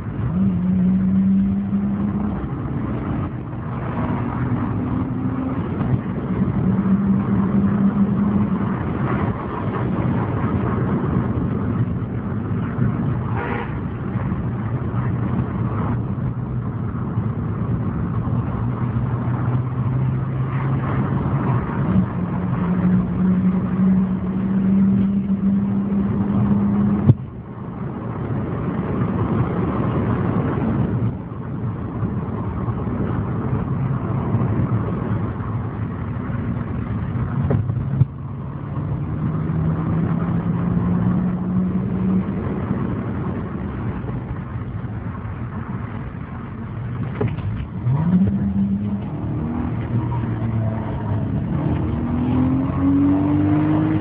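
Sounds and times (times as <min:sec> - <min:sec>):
car engine pulling hard: 0:00.0 - 0:54.0.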